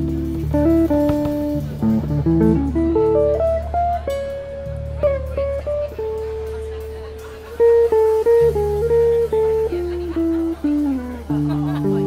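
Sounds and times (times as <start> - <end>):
drums playing: 0.0 - 12.0
electric bass notes: 0.0 - 12.0
jazz guitar melody: 0.0 - 12.0.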